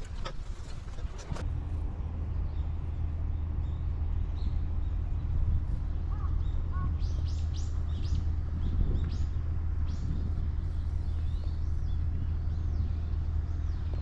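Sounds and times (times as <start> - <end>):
steady low rumble: 0.0 - 14.0
small birds chirping: 2.2 - 14.0.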